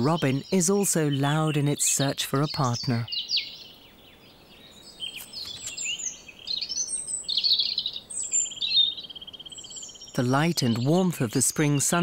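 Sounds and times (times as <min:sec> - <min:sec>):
robin singing: 0:00.0 - 0:12.0.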